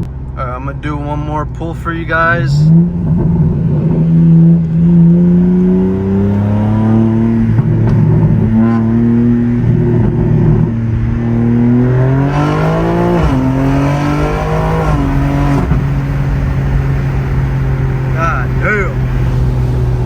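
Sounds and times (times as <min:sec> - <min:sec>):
car engine at full throttle: 0:00.0 - 0:20.0.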